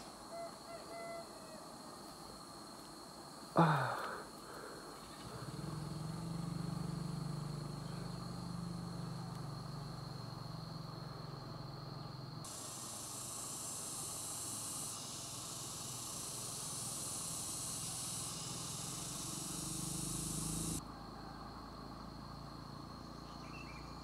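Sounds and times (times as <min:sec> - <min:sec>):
high insect drone: 0:00.0 - 0:24.0
low steady buzz: 0:00.0 - 0:24.0.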